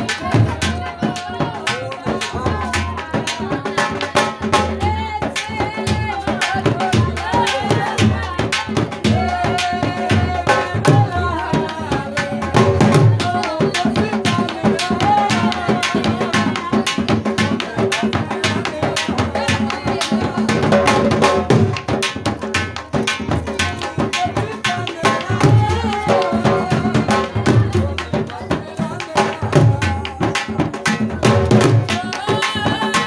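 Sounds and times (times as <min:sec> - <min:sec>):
drum beaten with sticks: 0:00.0 - 0:33.0.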